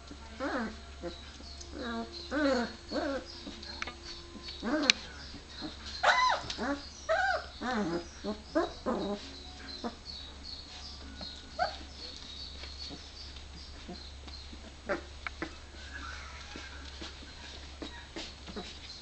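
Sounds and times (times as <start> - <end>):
puppies crying: 0.0 - 19.0.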